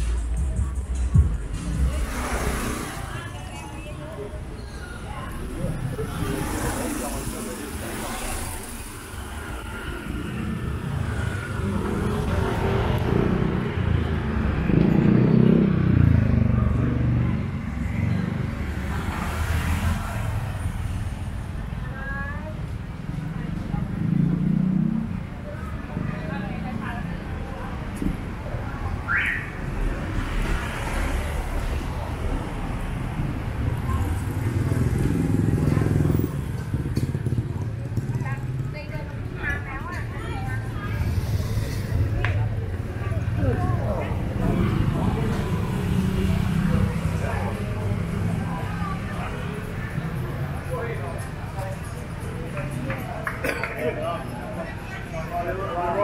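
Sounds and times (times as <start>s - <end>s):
vehicle engine approaching: 0.0s - 21.8s, 22.4s - 53.2s.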